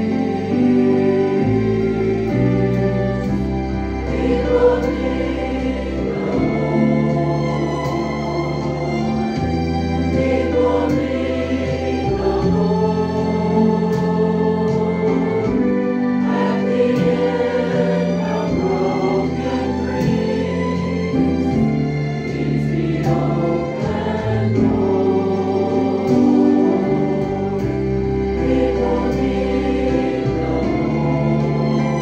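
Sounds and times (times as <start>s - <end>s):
choir singing a hymn: 0.0s - 32.0s
low instrumental accompaniment: 0.0s - 32.0s.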